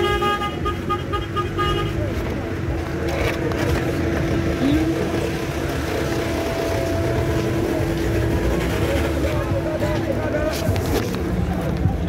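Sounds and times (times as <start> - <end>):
minibus engine droning: 0.0 - 12.0.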